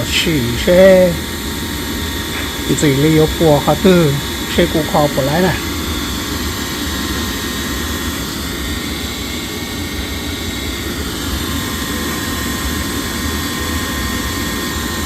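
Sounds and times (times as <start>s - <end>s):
faint steady whine: 0.0s - 15.0s
furnace fan and burner rushing: 0.0s - 15.0s.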